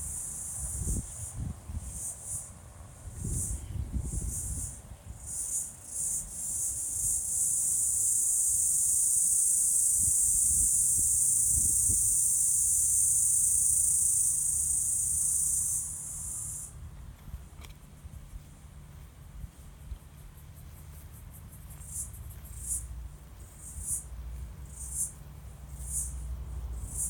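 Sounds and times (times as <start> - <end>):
cricket trilling: 0.0 - 16.8, 19.4 - 27.0.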